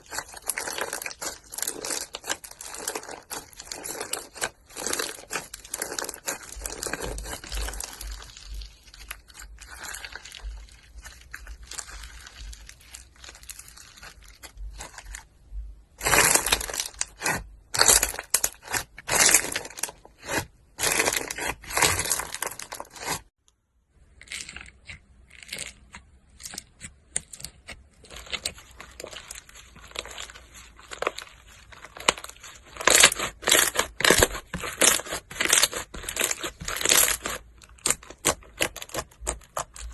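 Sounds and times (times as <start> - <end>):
slime squishing and crackling: 0.0 - 23.3, 24.1 - 39.9.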